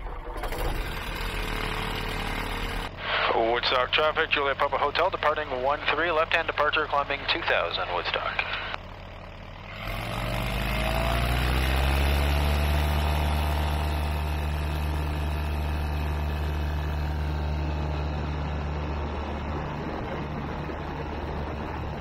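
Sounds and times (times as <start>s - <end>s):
light aircraft engine and propeller: 0.0s - 22.0s.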